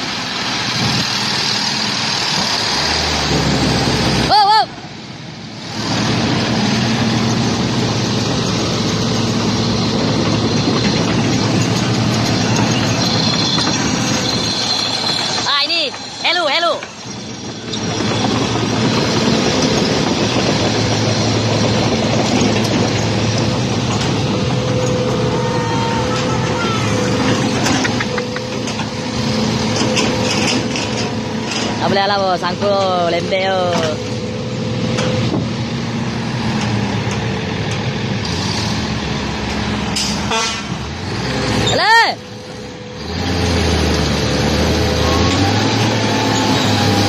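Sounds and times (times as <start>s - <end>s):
heavy diesel machinery running: 0.0s - 47.0s.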